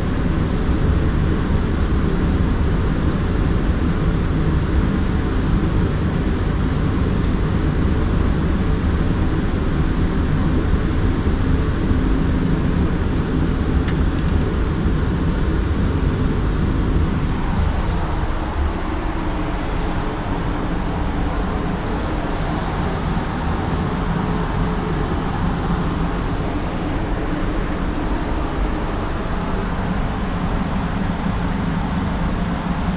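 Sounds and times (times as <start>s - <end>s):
ventilation fans roaring: 0.0s - 32.9s.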